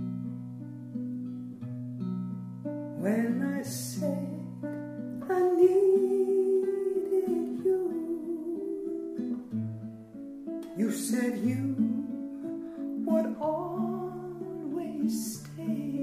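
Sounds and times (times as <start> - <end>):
guitar chords with melody: 0.0 - 16.0.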